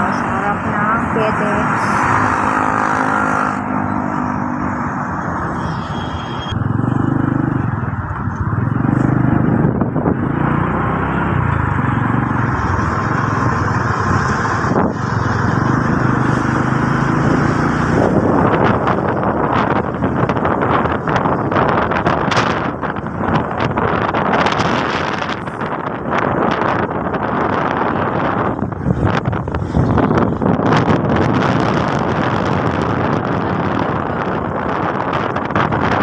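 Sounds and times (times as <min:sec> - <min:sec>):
wind and road noise: 0:00.0 - 0:36.0.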